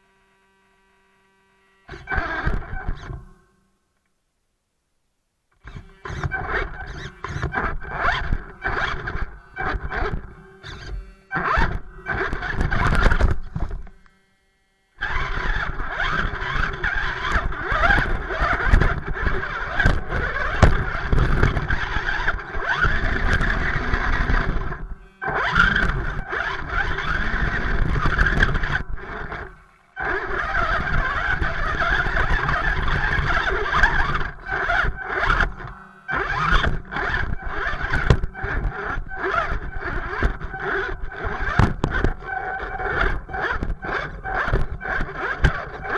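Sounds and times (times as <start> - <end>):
electric motor whining: 1.6 - 3.4, 5.6 - 45.9.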